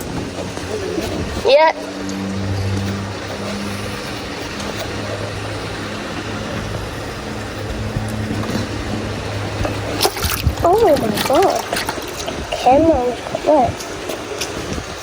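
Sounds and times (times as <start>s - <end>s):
even rushing noise: 0.0s - 15.0s
low rumble of road traffic: 0.0s - 15.0s.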